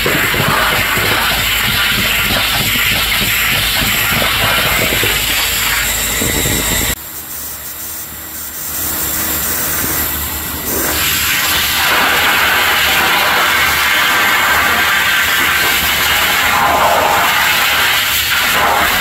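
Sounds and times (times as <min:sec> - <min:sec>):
cleaning machine drone: 0:00.0 - 0:19.0.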